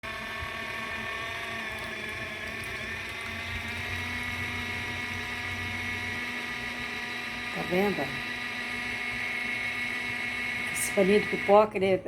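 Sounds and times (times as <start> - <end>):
washing machine motor humming: 0.0 - 12.0.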